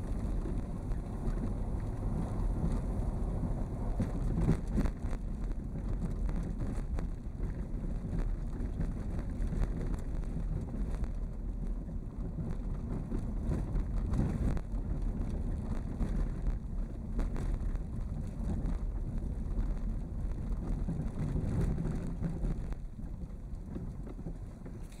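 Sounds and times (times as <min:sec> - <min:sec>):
vehicle rumble on road: 0:00.0 - 0:25.0
wind buffeting microphone: 0:00.0 - 0:25.0.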